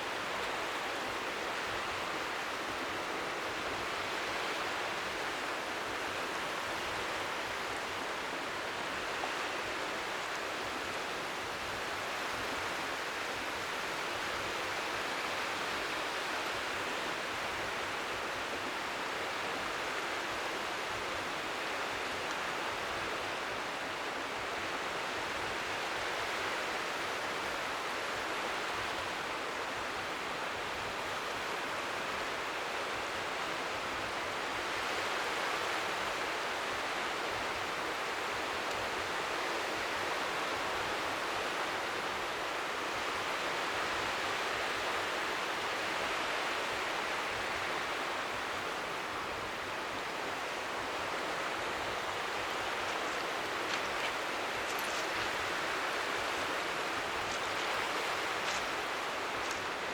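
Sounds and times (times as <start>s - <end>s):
strong wind: 0.0s - 59.9s
waves lapping at shore: 0.0s - 59.9s.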